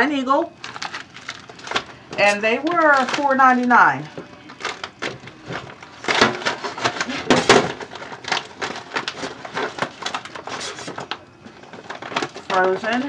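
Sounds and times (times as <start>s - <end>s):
plastic package crinkling: 0.5s - 13.0s.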